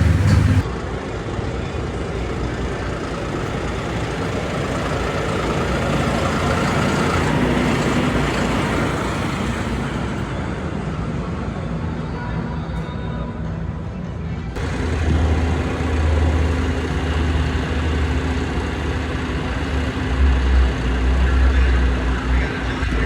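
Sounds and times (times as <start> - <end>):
vehicle engine rumbling: 0.0 - 10.6, 14.6 - 23.0.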